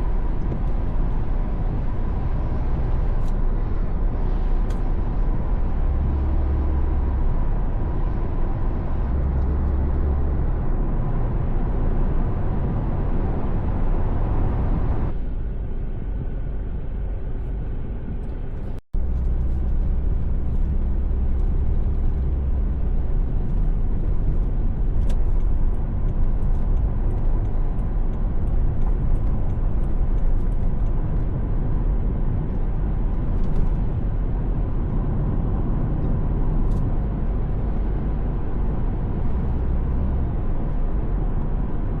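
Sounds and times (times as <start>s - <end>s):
vehicle road noise: 0.0s - 42.0s.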